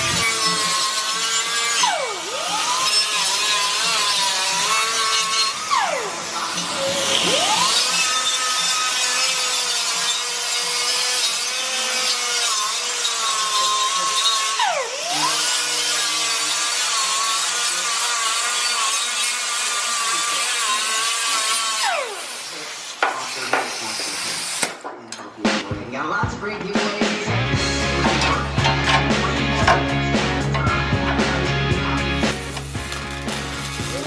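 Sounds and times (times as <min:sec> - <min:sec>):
electric power tool running: 0:00.0 - 0:24.6, 0:27.9 - 0:34.0.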